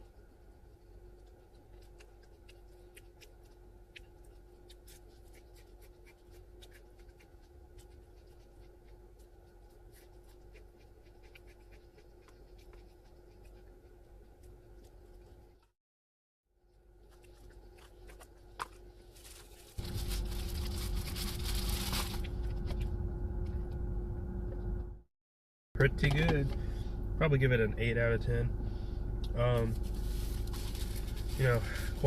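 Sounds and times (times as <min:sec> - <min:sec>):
steady low hum: 0:00.0 - 0:15.7, 0:16.5 - 0:25.0, 0:25.8 - 0:32.0.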